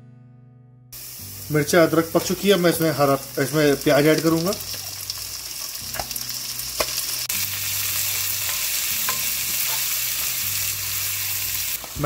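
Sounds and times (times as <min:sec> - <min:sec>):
onions sizzling in oil: 0:01.0 - 0:12.0.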